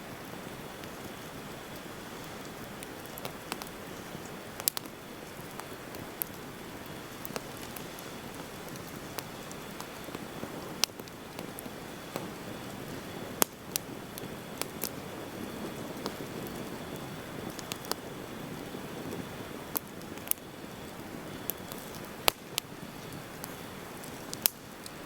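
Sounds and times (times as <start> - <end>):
burning wood pops and crackles: 0.0 - 25.0
hiss of flames: 0.0 - 25.0.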